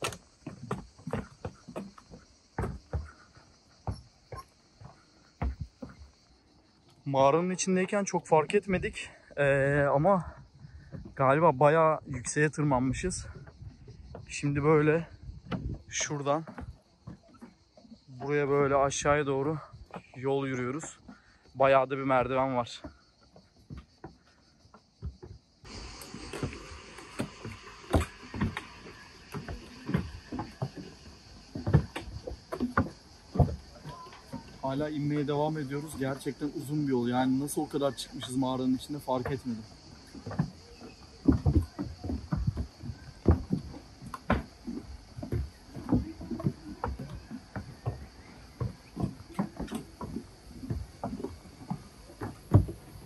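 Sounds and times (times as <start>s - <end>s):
footsteps on steps: 0.0s - 53.0s.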